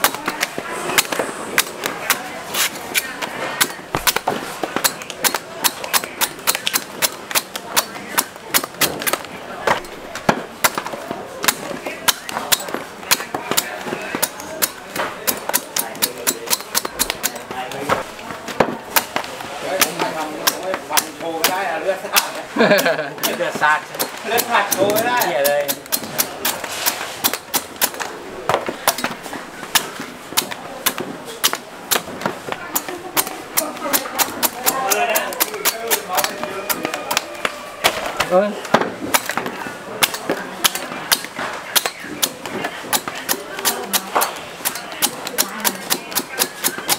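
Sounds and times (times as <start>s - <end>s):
knife chopping coconuts: 0.0s - 46.9s
murmur of voices: 0.0s - 46.9s.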